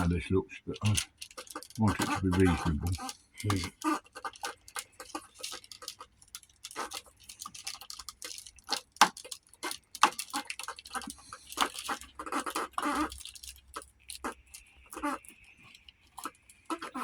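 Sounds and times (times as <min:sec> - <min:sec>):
scraping: 0:00.7 - 0:17.0.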